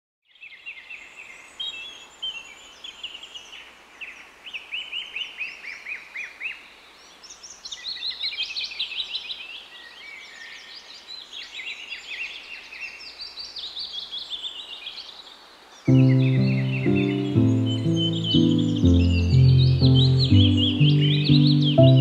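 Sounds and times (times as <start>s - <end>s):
faint outdoor background noise: 0.2s - 22.0s
small birds chirping: 0.2s - 22.0s.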